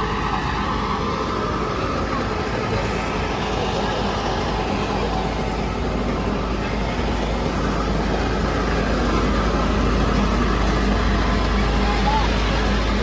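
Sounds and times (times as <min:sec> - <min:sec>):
constant low rumble: 0:00.0 - 0:13.0
market crowd hubbub: 0:00.0 - 0:13.0.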